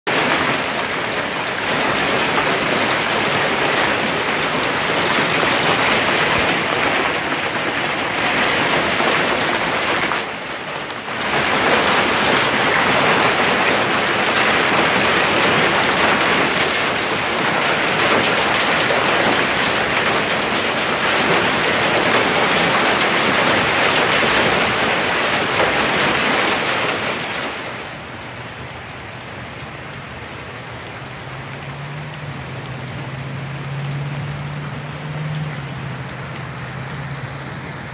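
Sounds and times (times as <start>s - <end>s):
hail and rain pelting down: 0.1s - 37.9s
softer steady rain: 0.1s - 37.9s.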